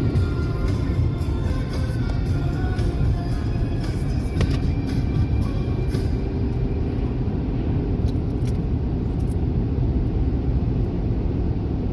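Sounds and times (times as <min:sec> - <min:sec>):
car road and engine rumble: 0:00.0 - 0:11.9.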